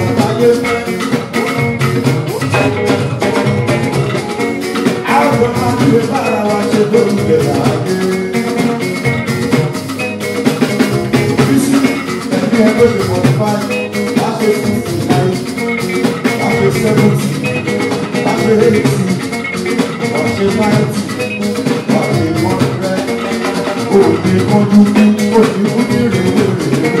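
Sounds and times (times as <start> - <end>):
bass guitar: 0.0 - 27.0
drums and percussion: 0.0 - 27.0
electric guitars: 0.0 - 27.0.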